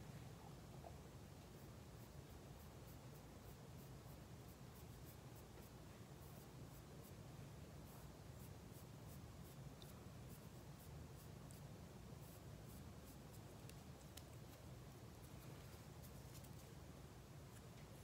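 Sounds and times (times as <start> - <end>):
low steady hum: 0.0 - 18.0
eyebrow brush scratching: 1.5 - 18.0.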